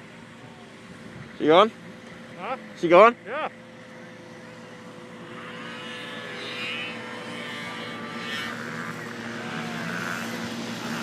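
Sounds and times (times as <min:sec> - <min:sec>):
snowmobile engine whine: 0:00.0 - 0:11.0.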